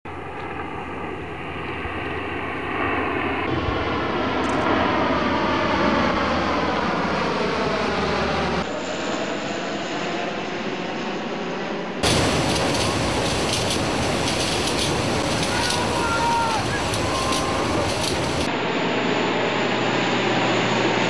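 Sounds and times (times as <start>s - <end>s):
turboprop aircraft droning overhead: 0.1s - 21.0s.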